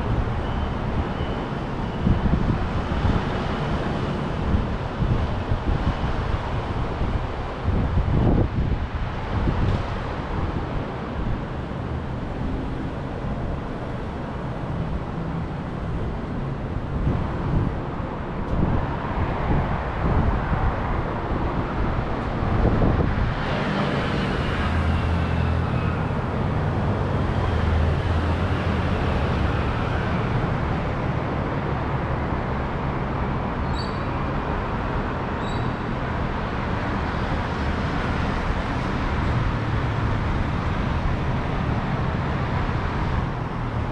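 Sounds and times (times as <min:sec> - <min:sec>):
vehicles passing: 0:00.0 - 0:43.9.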